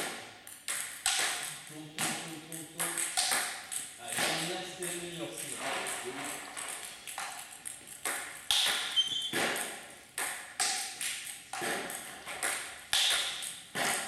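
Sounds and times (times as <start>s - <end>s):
table tennis balls clicking: 0.0s - 14.0s.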